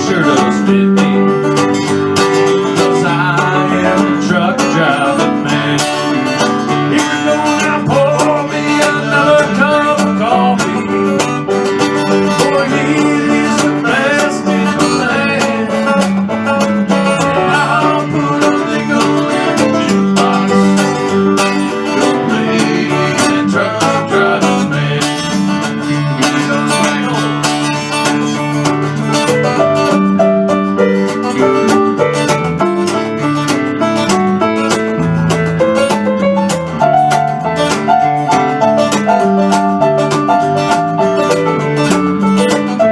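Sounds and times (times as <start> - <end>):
guitar playing: 0.0 - 42.9
plucked banjo: 0.0 - 42.9.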